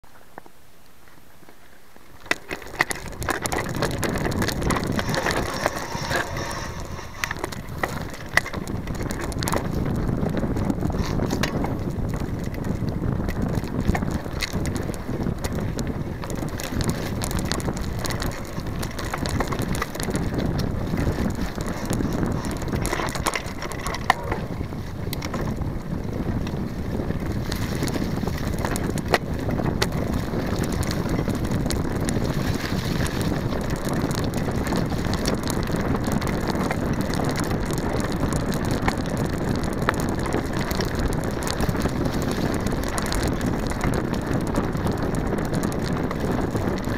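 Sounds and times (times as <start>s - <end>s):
bike tyres rumbling on dirt: 0.1s - 46.9s
bike frame rattling: 2.2s - 46.9s
wind on microphone: 2.5s - 46.9s.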